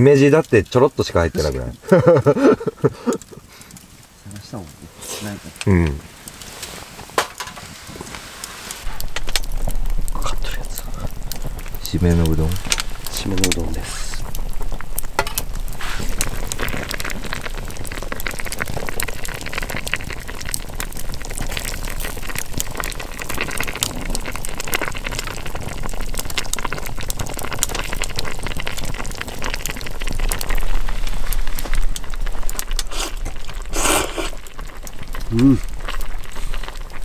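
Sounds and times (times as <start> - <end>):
broth bubbling in a pot: 0.0 - 37.0
wood fire crackling: 0.0 - 37.0.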